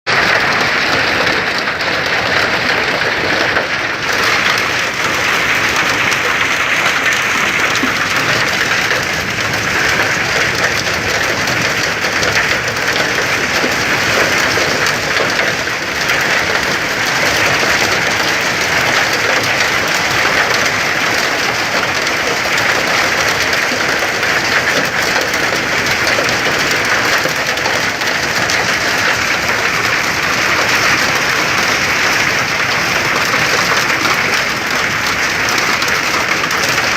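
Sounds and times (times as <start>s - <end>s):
heavy rain pouring: 0.1s - 36.9s.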